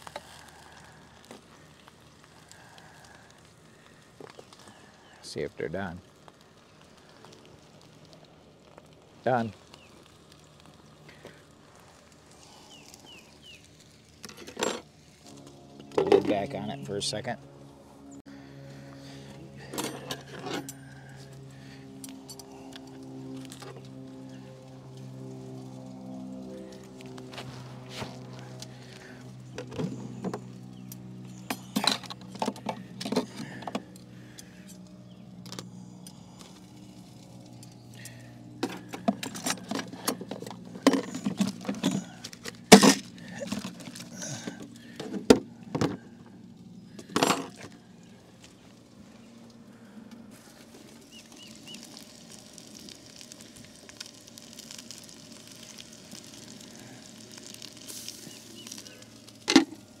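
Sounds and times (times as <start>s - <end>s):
pancake sizzling: 0.0s - 15.7s, 20.3s - 45.0s, 47.8s - 60.0s.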